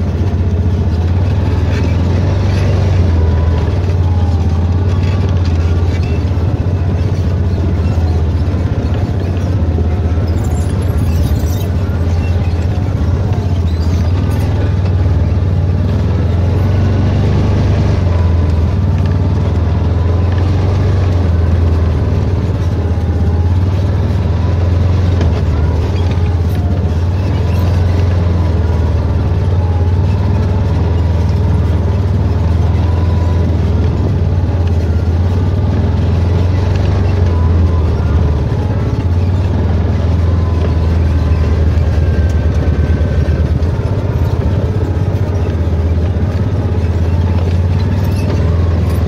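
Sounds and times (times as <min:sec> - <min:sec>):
vehicle engine droning: 0:00.0 - 0:49.0.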